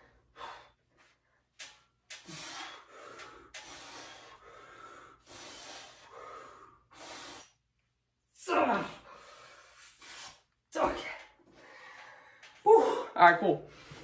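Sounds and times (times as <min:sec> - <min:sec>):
man breathing hard: 0:00.0 - 0:07.6, 0:08.7 - 0:10.5, 0:11.2 - 0:14.0.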